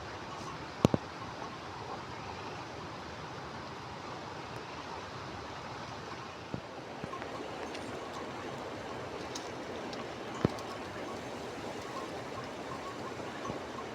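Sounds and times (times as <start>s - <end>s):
stream flowing: 0.0s - 13.9s.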